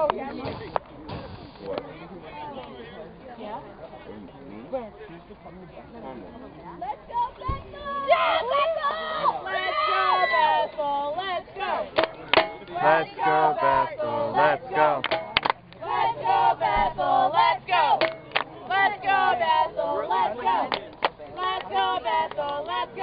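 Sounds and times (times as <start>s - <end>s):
crowd chattering: 0.0s - 23.0s.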